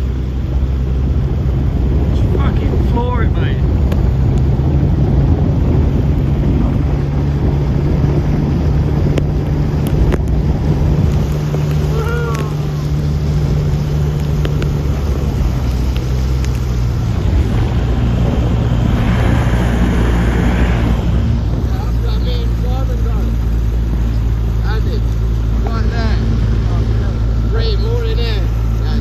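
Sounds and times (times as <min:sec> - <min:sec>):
outboard motor running: 0:00.0 - 0:29.0
rushing water: 0:00.0 - 0:29.0
wind on microphone: 0:00.0 - 0:29.0.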